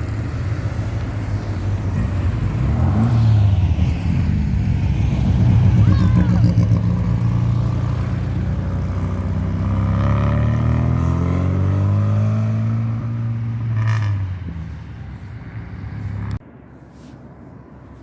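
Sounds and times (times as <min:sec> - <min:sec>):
car engine passing by: 0:00.0 - 0:17.2.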